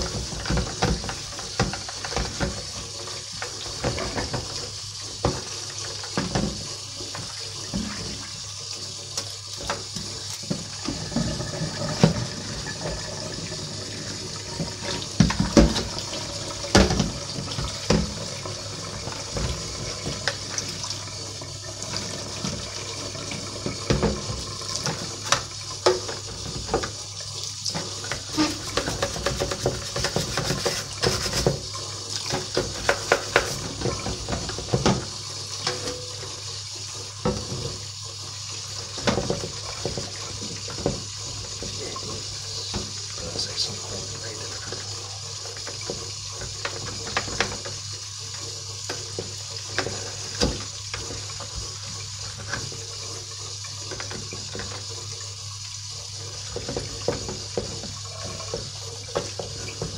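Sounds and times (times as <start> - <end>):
plastic knocking against sink: 0.0 - 8.4, 9.2 - 27.0, 27.7 - 36.2, 37.2 - 37.8, 38.9 - 43.4, 45.6 - 47.8, 48.8 - 52.8, 56.5 - 59.9
tap running into sink: 0.0 - 59.9.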